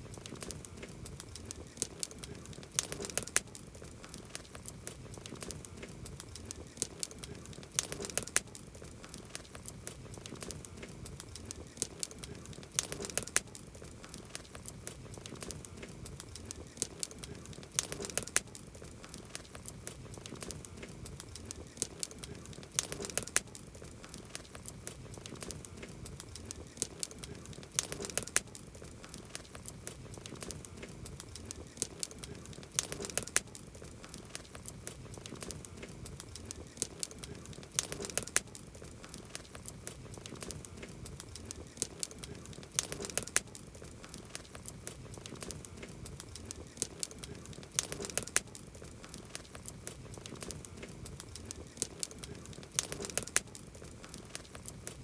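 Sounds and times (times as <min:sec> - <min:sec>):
campfire wood crackling and popping: 0:00.0 - 0:55.0.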